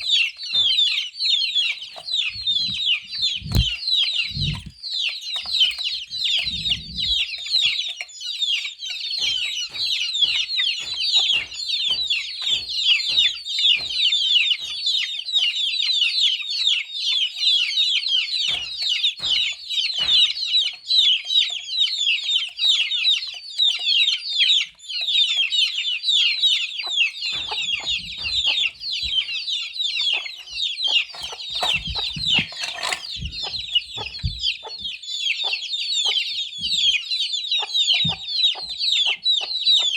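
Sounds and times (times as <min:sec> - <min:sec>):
chicks peeping: 0:00.0 - 0:39.9
sharp taps and dull knocks: 0:00.0 - 0:39.9.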